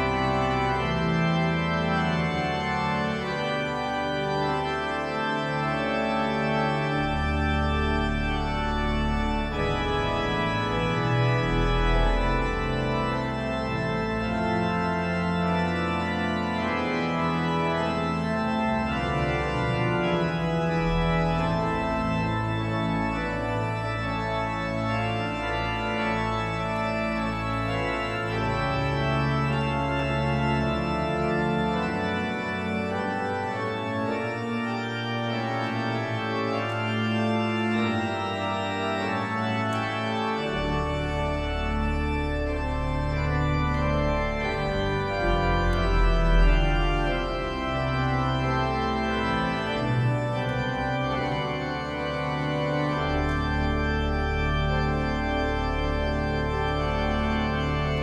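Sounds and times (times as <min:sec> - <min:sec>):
organ chords: 0:00.0 - 0:58.0.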